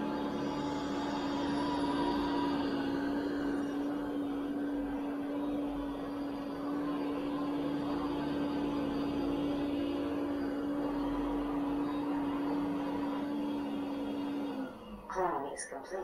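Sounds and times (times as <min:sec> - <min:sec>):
robot vacuum suction rush: 0:00.0 - 0:15.6.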